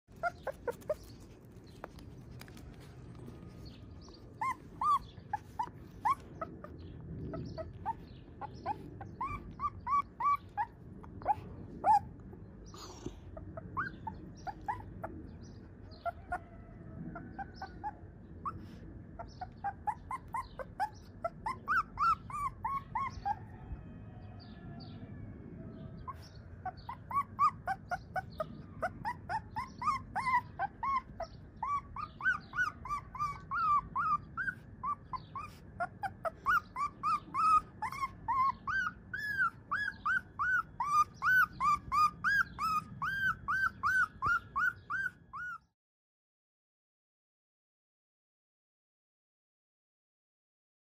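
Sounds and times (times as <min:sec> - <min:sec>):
puppy whimpering: 0:00.1 - 0:23.6, 0:26.0 - 0:45.7.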